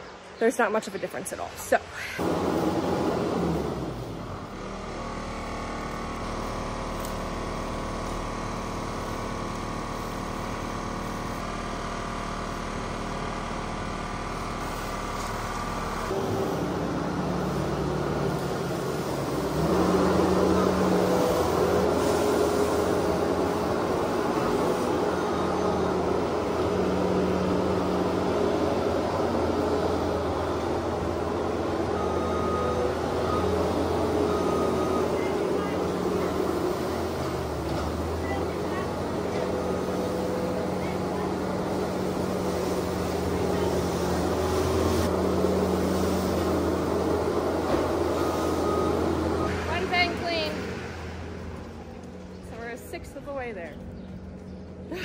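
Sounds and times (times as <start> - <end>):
diesel loader engine running: 2.2 - 55.0.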